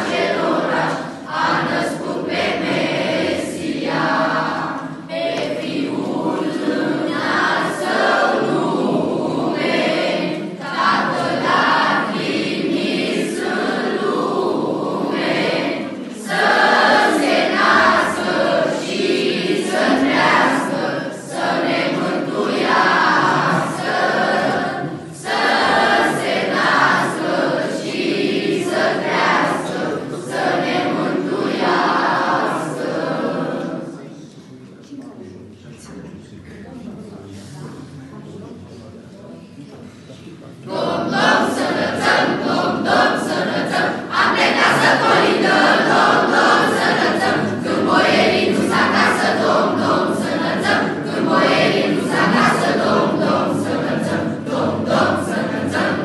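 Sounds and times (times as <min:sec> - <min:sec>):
children's choir singing a carol: 0:00.0 - 0:34.5, 0:38.2 - 0:56.0.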